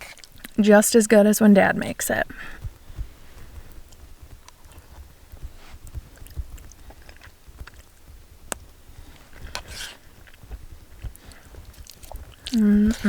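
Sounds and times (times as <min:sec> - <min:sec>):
person chewing spaghetti: 0:02.4 - 0:13.0.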